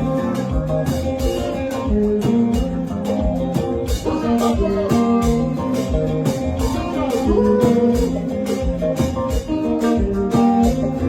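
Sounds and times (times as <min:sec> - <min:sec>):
band playing: 0:00.0 - 0:11.0
guitar solo with bending notes: 0:00.0 - 0:11.0
steady drum beat: 0:00.0 - 0:11.0.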